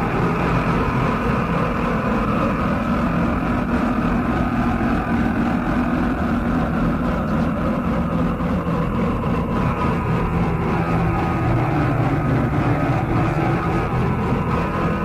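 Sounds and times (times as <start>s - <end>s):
muffled noise drone: 0.0s - 15.0s.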